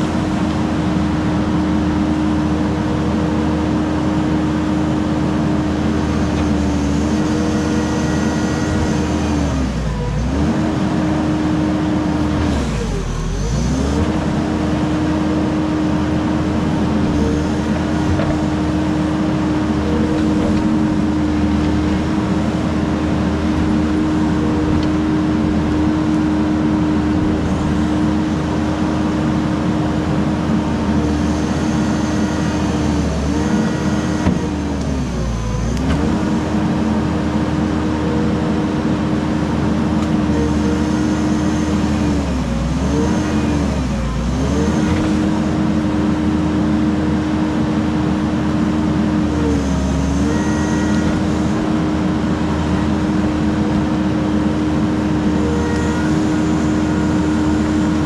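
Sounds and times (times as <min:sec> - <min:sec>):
diesel engine at high revs: 0:00.0 - 0:58.0.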